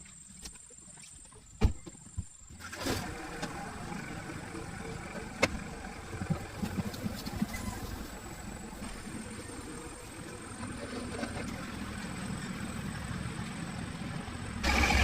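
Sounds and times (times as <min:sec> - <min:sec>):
engine running steadily: 0:02.5 - 0:15.0.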